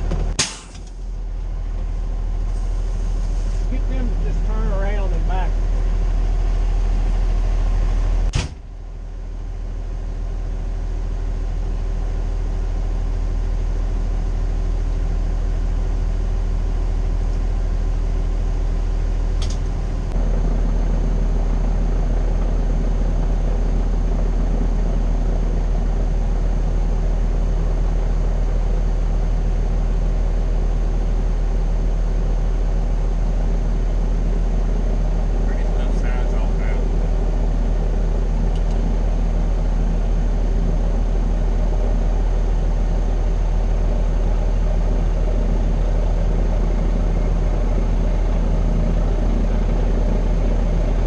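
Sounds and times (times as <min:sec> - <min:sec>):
diesel fire engine droning: 0:00.0 - 0:51.0.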